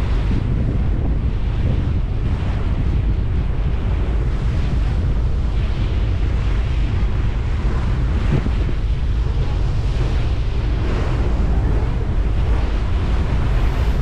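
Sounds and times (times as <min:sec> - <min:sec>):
rush of open water: 0:00.0 - 0:14.0
wind buffeting microphone: 0:00.0 - 0:14.0.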